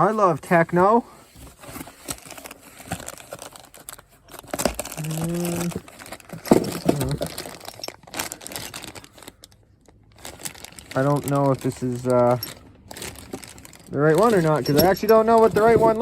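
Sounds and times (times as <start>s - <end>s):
paper and packaging crinkling: 0.5s - 16.0s.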